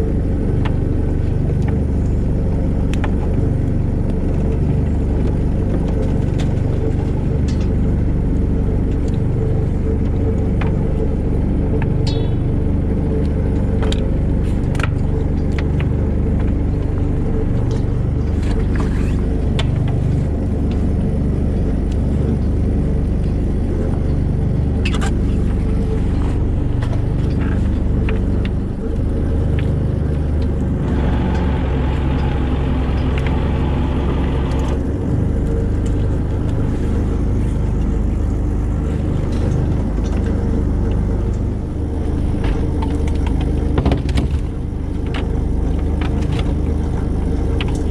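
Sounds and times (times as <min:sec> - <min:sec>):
boat engine humming: 0:00.0 - 0:47.9.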